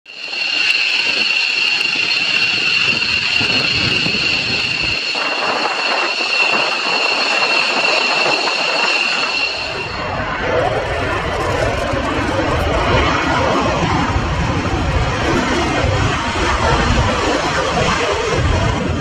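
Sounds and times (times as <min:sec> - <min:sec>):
jet engines whining and roaring: 0:00.1 - 0:19.0.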